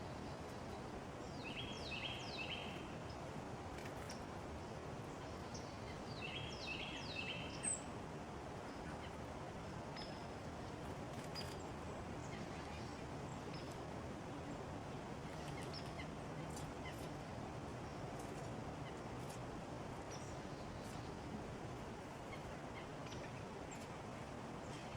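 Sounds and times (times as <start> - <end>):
outdoor background hiss: 0.0 - 24.9.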